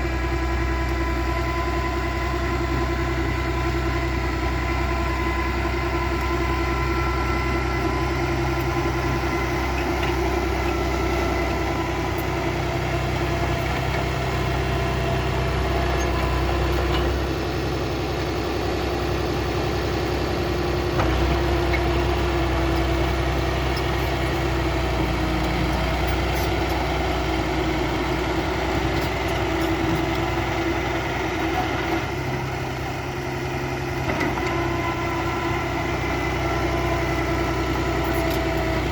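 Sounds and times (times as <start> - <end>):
diesel engine deep rumble: 0.0 - 38.9.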